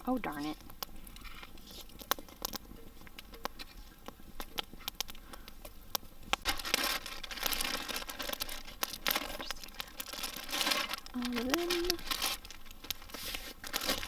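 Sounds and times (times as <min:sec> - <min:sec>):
fire crackling: 0:00.0 - 0:14.0
rustling hiss: 0:00.0 - 0:14.0.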